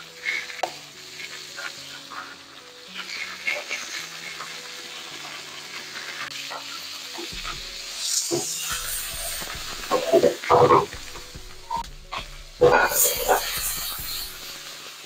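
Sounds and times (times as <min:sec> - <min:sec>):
steaks sizzling in a skillet: 0:00.0 - 0:15.0.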